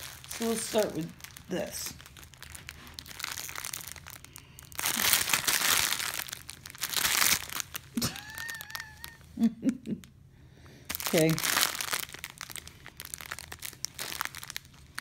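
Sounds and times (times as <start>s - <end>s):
plastic bag crinkling: 0.0s - 9.2s, 10.9s - 15.0s.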